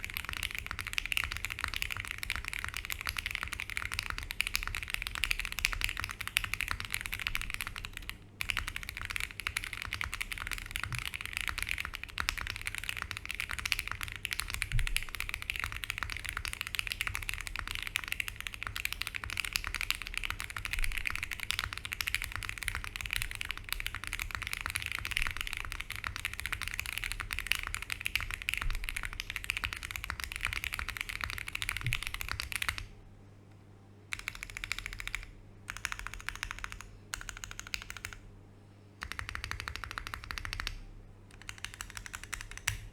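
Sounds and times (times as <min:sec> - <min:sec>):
mechanical keyboard typing: 0:00.0 - 0:32.9, 0:34.1 - 0:38.2, 0:39.0 - 0:42.9.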